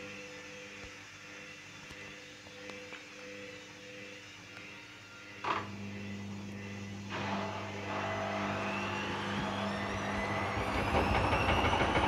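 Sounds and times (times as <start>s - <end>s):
rising whine of spinning drum: 0.0s - 12.0s
washing machine motor hum: 0.0s - 12.0s.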